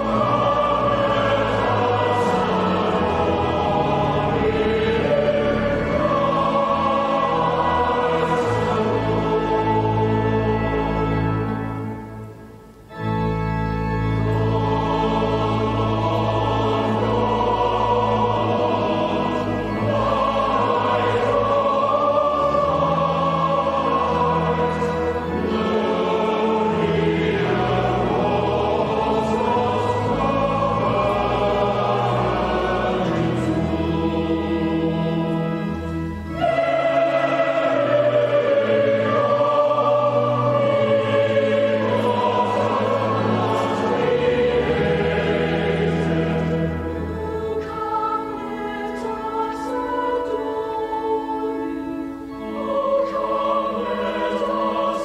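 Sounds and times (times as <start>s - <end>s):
choir singing: 0.0s - 55.0s
low sustained accompaniment: 0.0s - 55.0s.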